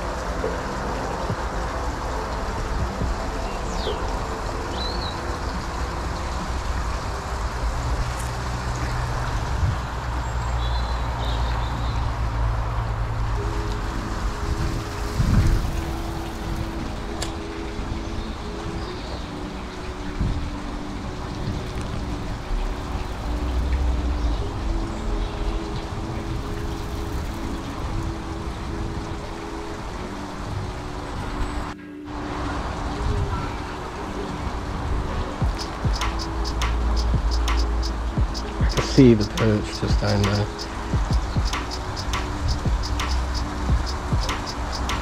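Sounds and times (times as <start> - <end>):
soft background music chords: 0.0 - 45.0
wind buffeting microphone: 0.0 - 45.0.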